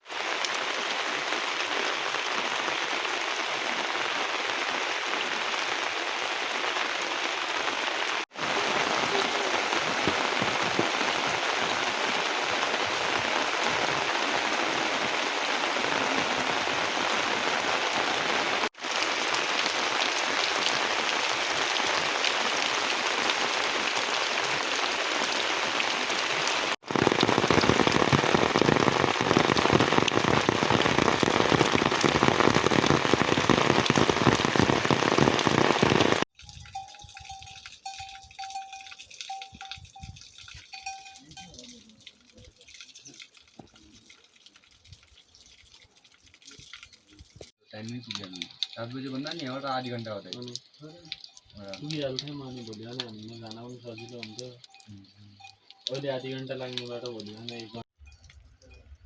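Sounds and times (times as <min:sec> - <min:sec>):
steady rain patter: 0:00.0 - 0:58.4.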